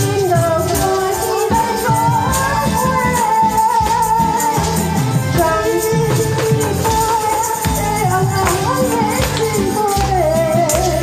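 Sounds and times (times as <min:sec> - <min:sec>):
amplified singing over backing track: 0:00.0 - 0:11.0
tambourine jingling: 0:00.0 - 0:11.0.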